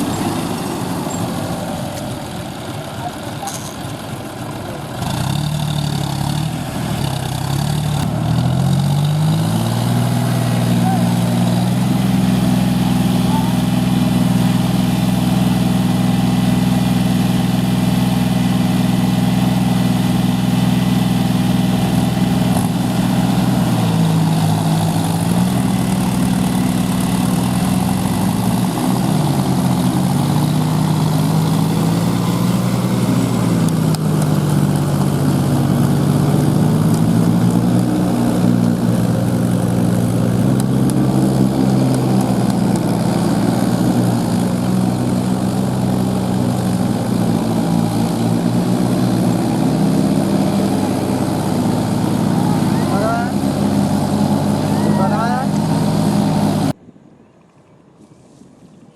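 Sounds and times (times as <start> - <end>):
tractor diesel engine running: 0.0 - 56.8.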